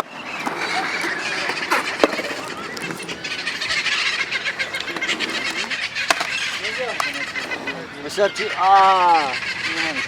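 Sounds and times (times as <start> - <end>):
flock of parrots calling: 0.2 - 10.0.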